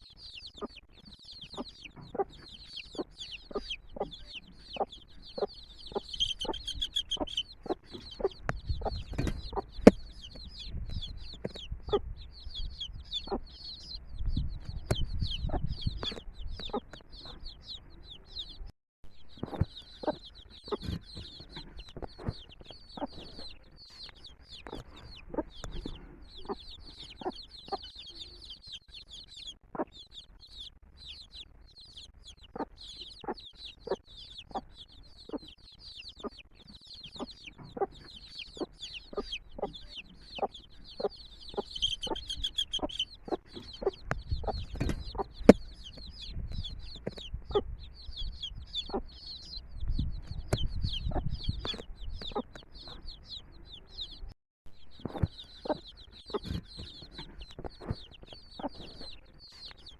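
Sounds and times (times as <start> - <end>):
hen clucking: 0.0 - 54.3, 54.9 - 59.9
chicks peeping: 0.0 - 59.9.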